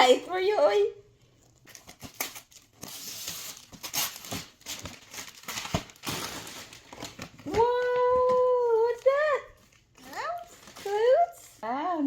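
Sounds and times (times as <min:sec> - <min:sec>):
wrapping paper rustling and tearing: 0:01.5 - 0:12.0.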